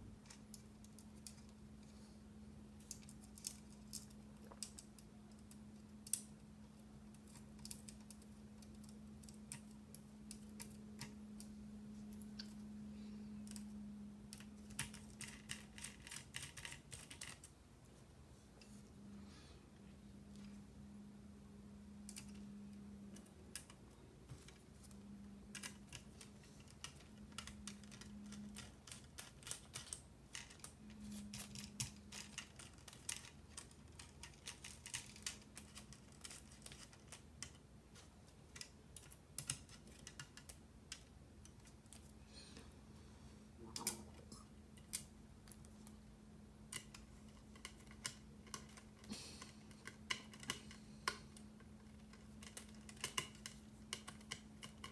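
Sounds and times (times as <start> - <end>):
faint low hum: 0.0 - 54.9.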